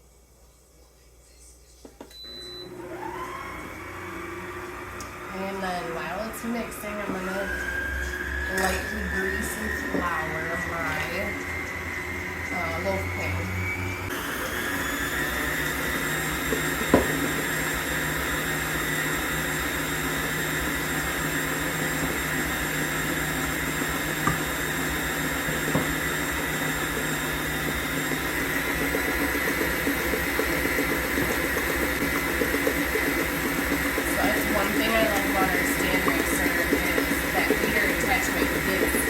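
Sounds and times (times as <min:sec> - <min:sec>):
stand mixer beating batter: 0:02.2 - 0:39.0.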